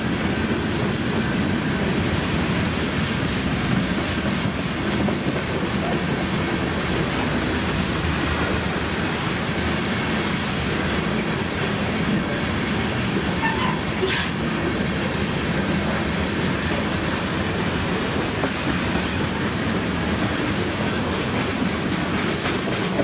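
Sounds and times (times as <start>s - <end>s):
wheel-on-rail noise: 0.0s - 23.0s.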